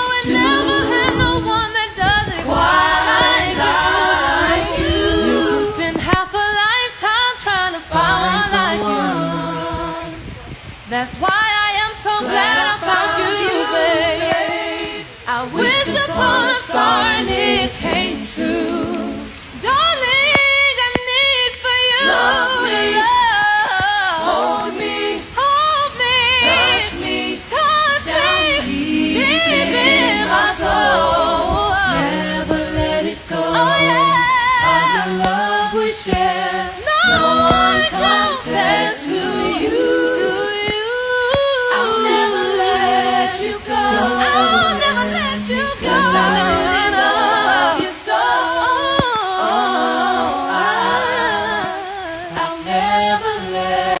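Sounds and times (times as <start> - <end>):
lower voice singing harmony: 0.0 - 54.0
voices singing a cappella: 0.0 - 54.0.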